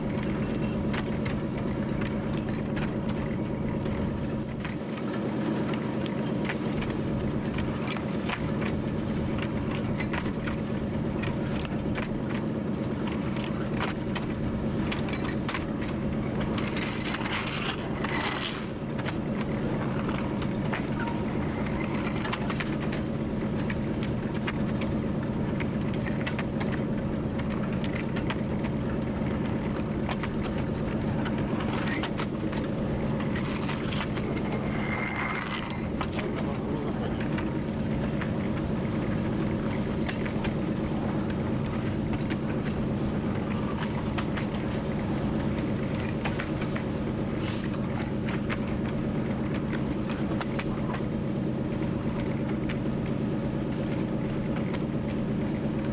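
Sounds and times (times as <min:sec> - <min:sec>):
locomotive engine drone: 0:00.0 - 0:55.9
wheels clicking and knocking: 0:00.0 - 0:55.9.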